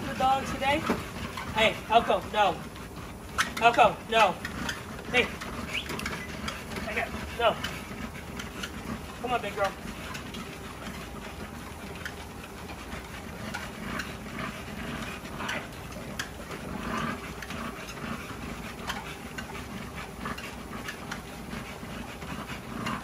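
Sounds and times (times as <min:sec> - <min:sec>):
dog panting: 0:00.0 - 0:23.0
treadmill motor and belt hum: 0:00.0 - 0:23.0.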